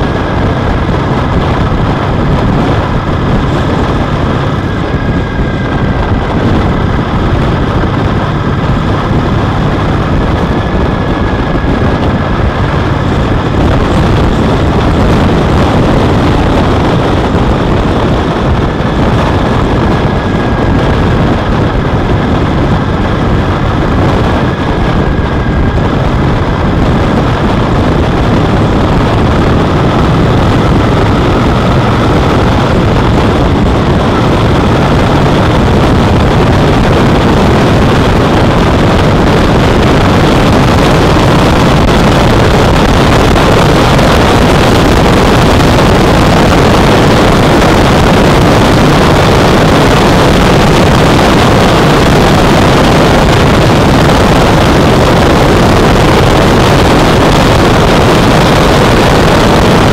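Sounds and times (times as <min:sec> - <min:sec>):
motorcycle engine running: 0:00.0 - 0:59.9
wind rush on microphone: 0:00.0 - 0:59.9.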